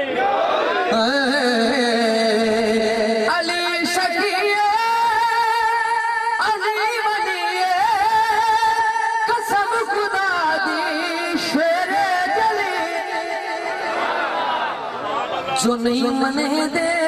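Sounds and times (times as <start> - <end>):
man singing devotional song: 0.9 - 13.7, 15.6 - 17.0.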